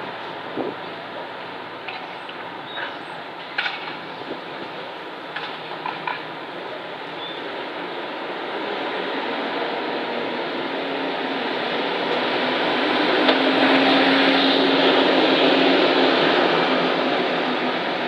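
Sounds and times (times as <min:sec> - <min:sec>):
bus engine and tyre noise: 0:00.0 - 0:18.0.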